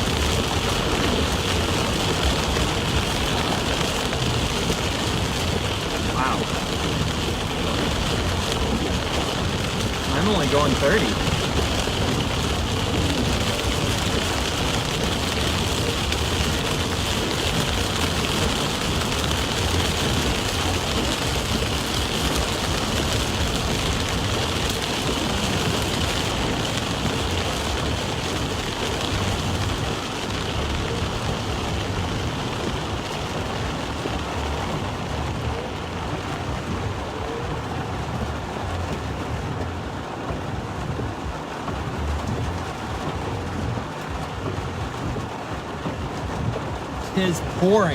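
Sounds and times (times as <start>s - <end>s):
heavy rain on car roof: 0.0s - 47.9s
tyre noise on wet road: 0.0s - 47.9s.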